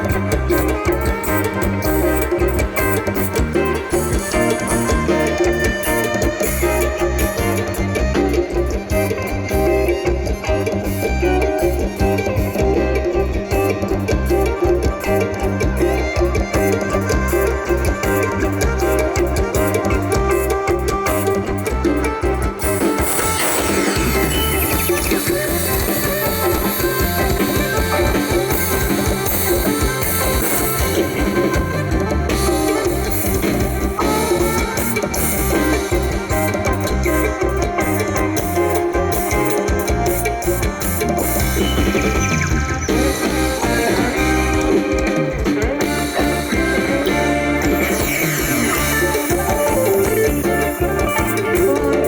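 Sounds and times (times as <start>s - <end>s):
music with drums and guitar: 0.0s - 52.0s.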